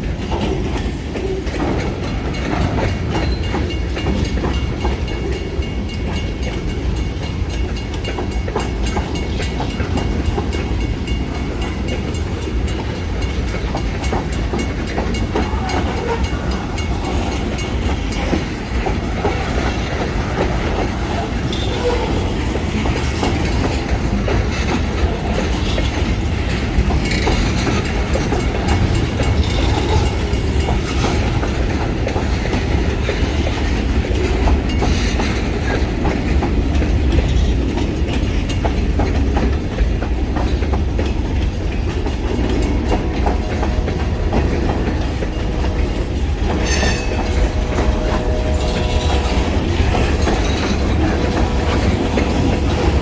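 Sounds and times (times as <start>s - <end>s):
freight train rumbling: 0.0s - 53.0s
wheels clicking over rail joints: 0.0s - 53.0s.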